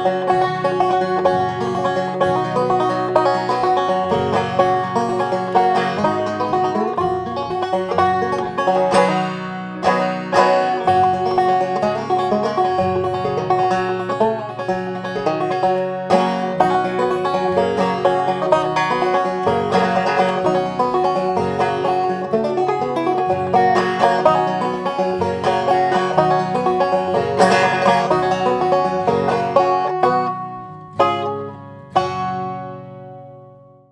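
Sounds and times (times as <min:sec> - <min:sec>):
banjo picking bluegrass tune: 0:00.0 - 0:33.9
hard-struck banjo chords: 0:00.0 - 0:33.9.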